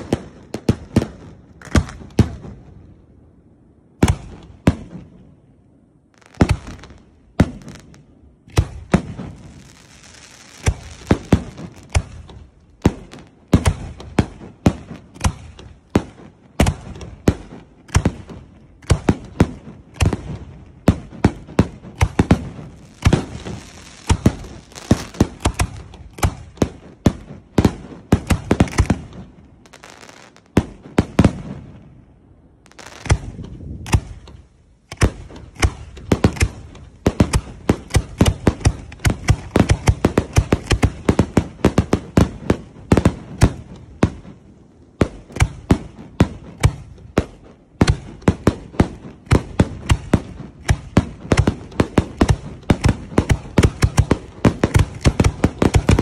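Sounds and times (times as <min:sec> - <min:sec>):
fireworks launching and bursting: 0:00.0 - 0:02.7, 0:06.1 - 0:56.0.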